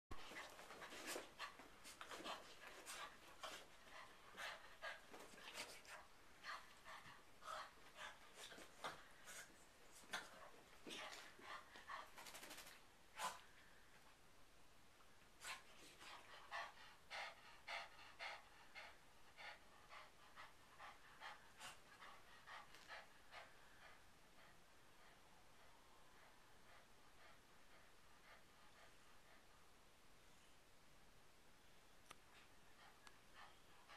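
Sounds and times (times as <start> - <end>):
dog panting: 0.2 - 13.4, 15.5 - 29.6, 32.4 - 33.9.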